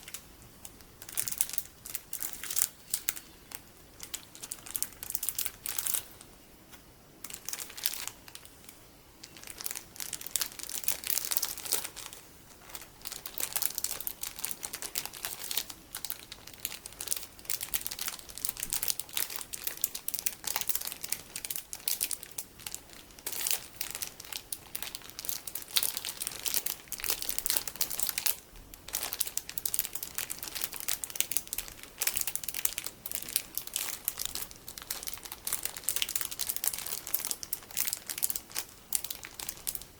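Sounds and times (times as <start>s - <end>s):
plastic packaging crinkling: 0.0s - 6.3s, 7.2s - 39.9s.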